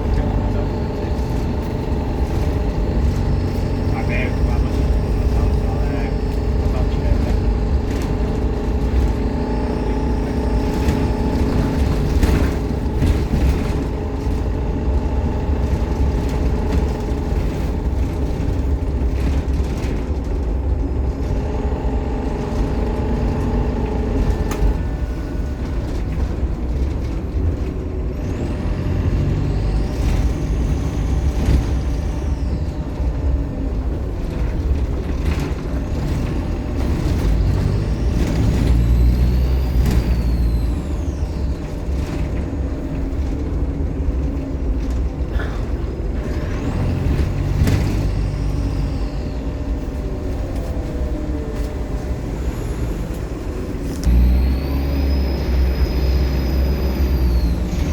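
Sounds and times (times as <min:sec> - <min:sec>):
turbo whine: 0:00.0 - 0:20.0, 0:20.6 - 0:57.9
bus body knocks and rattles: 0:00.0 - 0:28.1, 0:28.7 - 0:40.3, 0:41.2 - 0:48.8
diesel bus engine rumbling: 0:00.0 - 0:57.9.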